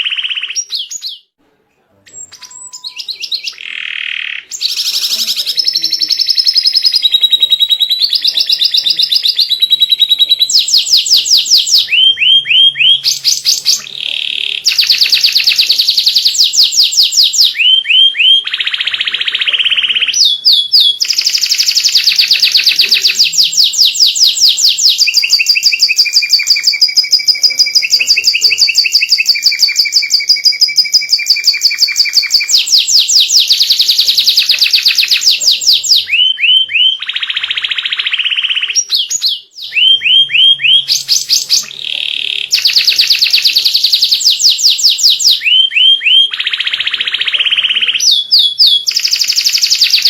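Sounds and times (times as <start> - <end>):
canary singing rapid trills: 0.0 - 1.3, 2.2 - 50.0.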